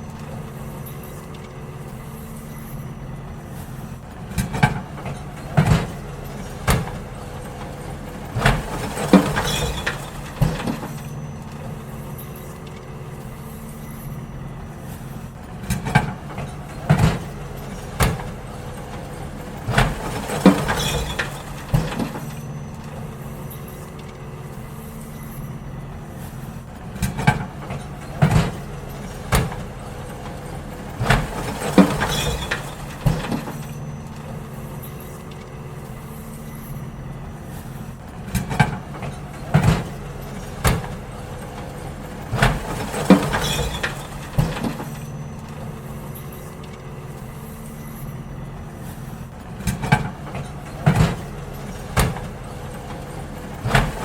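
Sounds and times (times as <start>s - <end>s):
bins banging and clattering: 0.0s - 54.0s
garbage truck engine running: 0.0s - 54.0s.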